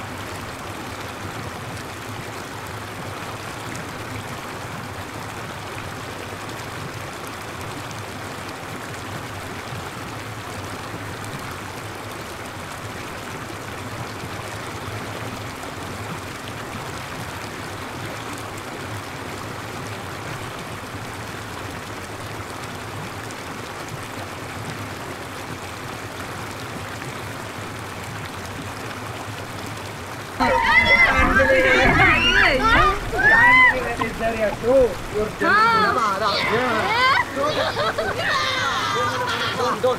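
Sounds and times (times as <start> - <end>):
water showering down like rain: 0.0 - 39.9.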